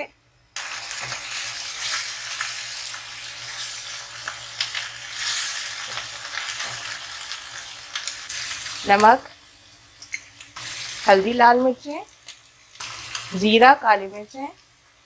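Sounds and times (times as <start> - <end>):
food sizzling in hot oil: 0.6 - 15.0.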